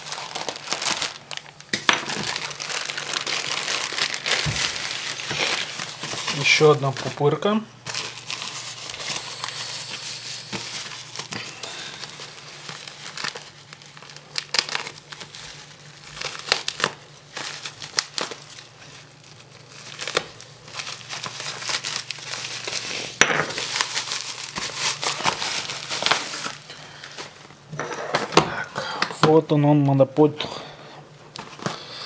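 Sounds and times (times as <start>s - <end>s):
bubble wrap crinkling: 0.0s - 30.2s, 31.1s - 32.0s.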